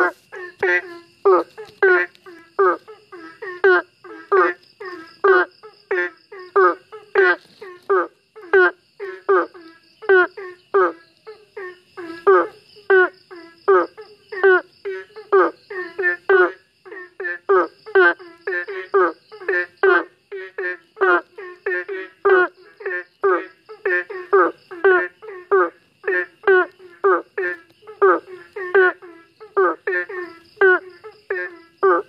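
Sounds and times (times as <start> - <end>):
frog croaking: 0.0 - 32.0.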